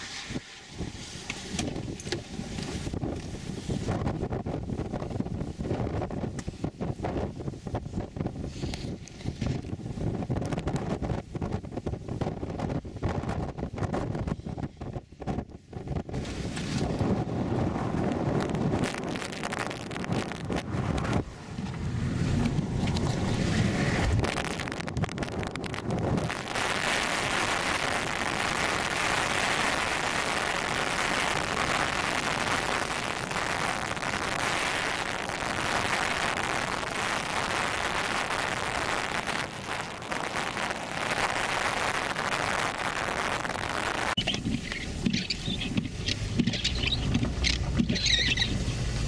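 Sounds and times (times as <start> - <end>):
rushing hiss of wind: 0.0 - 49.0
wind buffeting microphone: 0.0 - 49.0.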